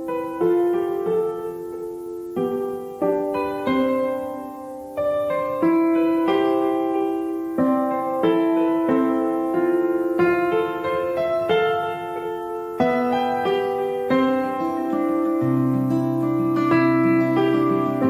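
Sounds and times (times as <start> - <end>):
gentle piano piece: 0.0 - 18.0.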